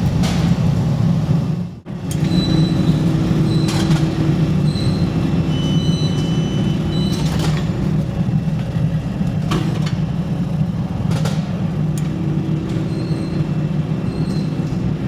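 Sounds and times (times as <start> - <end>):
factory machinery drone: 0.0 - 15.0.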